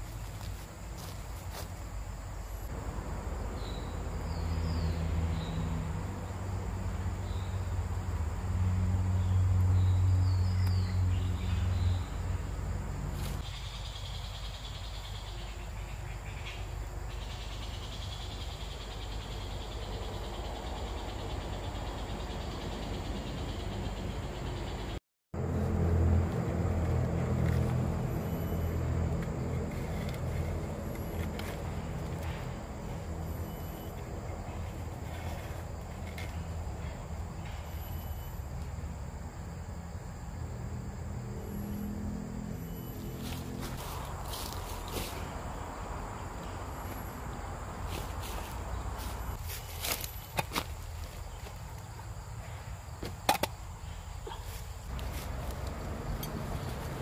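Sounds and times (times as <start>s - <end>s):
high insect buzz: 0.0s - 24.8s, 25.5s - 57.0s
insects: 0.0s - 57.0s.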